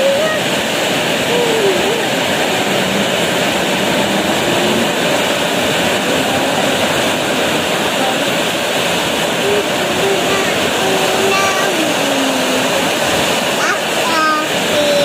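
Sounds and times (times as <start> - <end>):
heavy rain in strong wind: 0.0 - 15.0.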